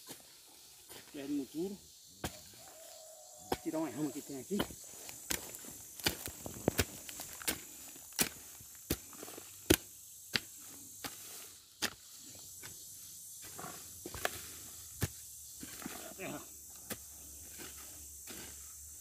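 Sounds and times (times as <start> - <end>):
hoe blade striking soil: 2.2 - 19.0.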